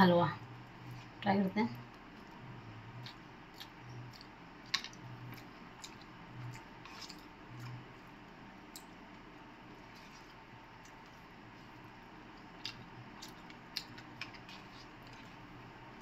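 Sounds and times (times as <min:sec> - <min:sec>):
soft chewing: 0:00.4 - 0:16.0.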